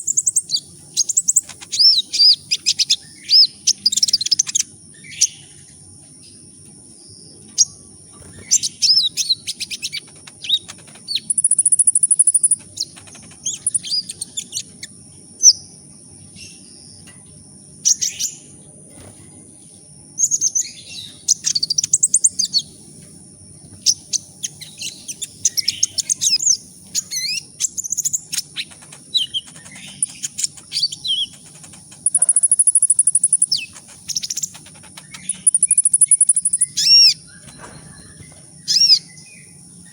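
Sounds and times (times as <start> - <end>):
sunbird twittering and trilling: 0.0 - 39.9.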